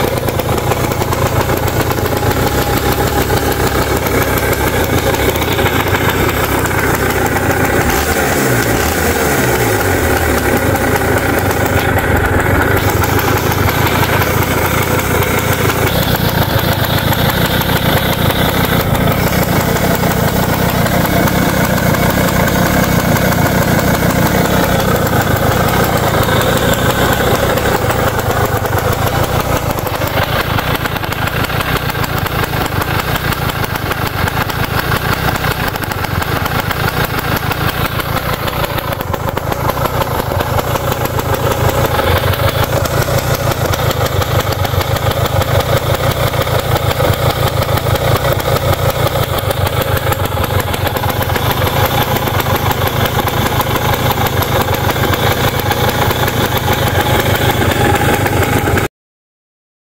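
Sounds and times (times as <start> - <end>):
two-stroke engine idling: 0.0 - 58.9.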